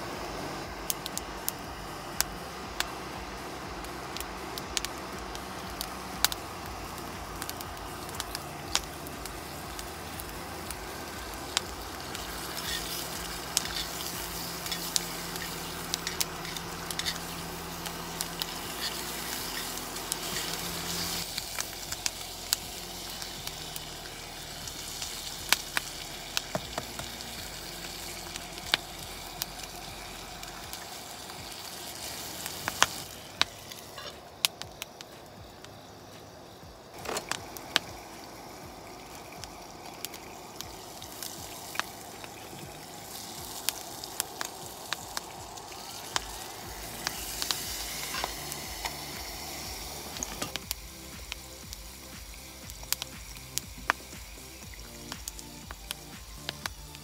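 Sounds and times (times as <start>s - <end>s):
bacon sizzling in a frying pan: 0.0s - 57.0s.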